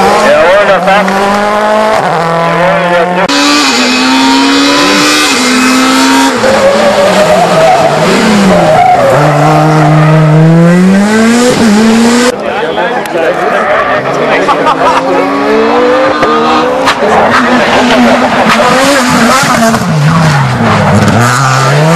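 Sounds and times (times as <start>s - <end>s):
rally car engines running hard: 0.0s - 12.4s, 14.0s - 21.9s
tyres skidding: 0.0s - 12.4s, 13.2s - 21.9s.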